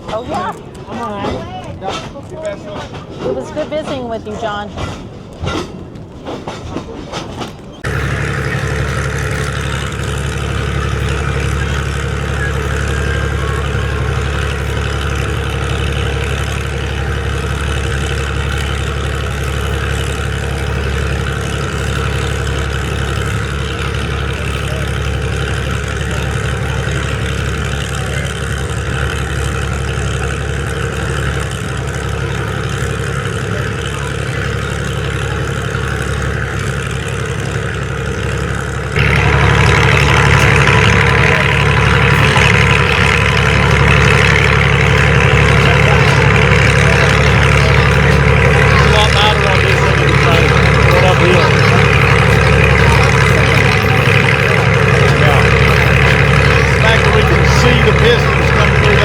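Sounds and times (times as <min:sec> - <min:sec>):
locomotive engine running: 0:00.0 - 0:59.0.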